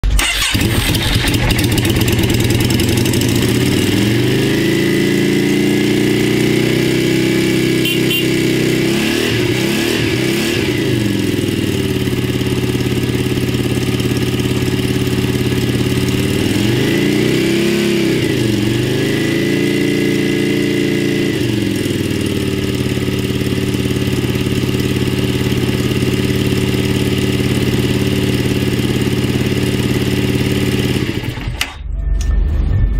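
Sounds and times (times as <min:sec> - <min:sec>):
engine revving: 0:00.2 - 0:31.7
motorcycle engine idling: 0:00.6 - 0:08.9, 0:10.8 - 0:17.4, 0:18.0 - 0:31.6.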